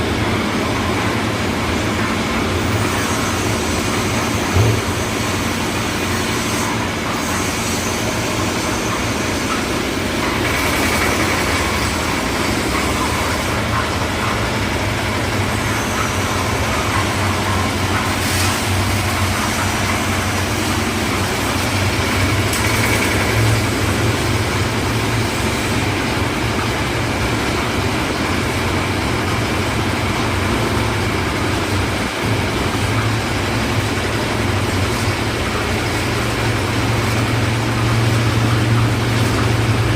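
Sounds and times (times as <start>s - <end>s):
concrete mixer engine running: 0.0s - 39.9s.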